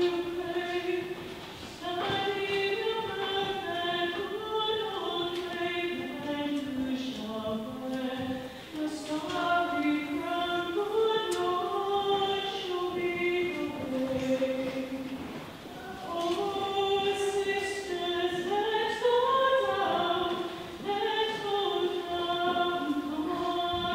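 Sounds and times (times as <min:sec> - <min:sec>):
choir singing: 0:00.0 - 0:15.1, 0:15.7 - 0:23.9.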